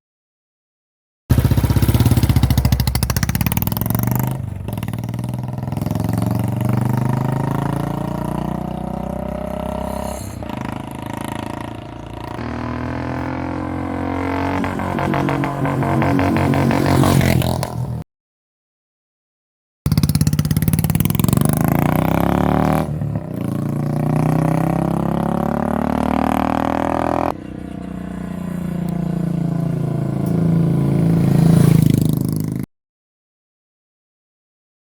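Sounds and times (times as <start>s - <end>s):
motorcycle engine revving: 1.3s - 18.0s, 19.9s - 32.7s.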